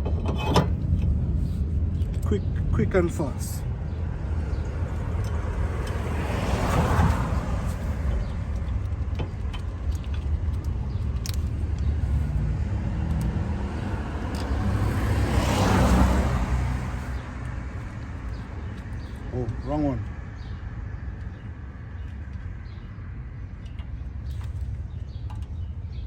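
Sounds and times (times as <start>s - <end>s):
cars passing by: 0.0s - 26.0s
road traffic rumble: 0.0s - 26.0s.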